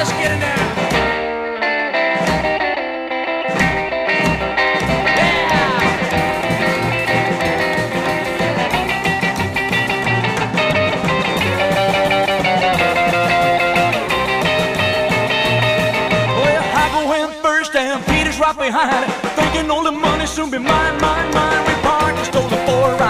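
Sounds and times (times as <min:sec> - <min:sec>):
rock music with electric guitar: 0:00.0 - 0:23.0.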